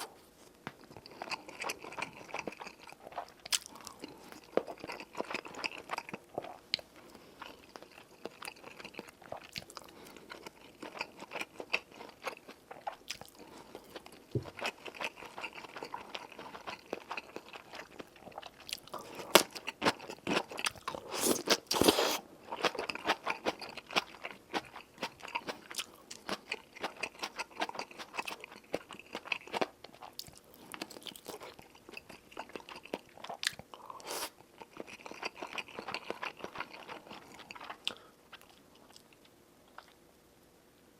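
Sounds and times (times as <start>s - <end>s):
chewing and crunching food: 0.0s - 40.2s.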